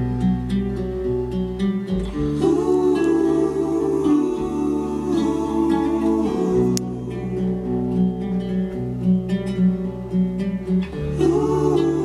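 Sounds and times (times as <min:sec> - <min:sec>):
acoustic guitar music: 0:00.0 - 0:12.0
bass line: 0:00.0 - 0:12.0.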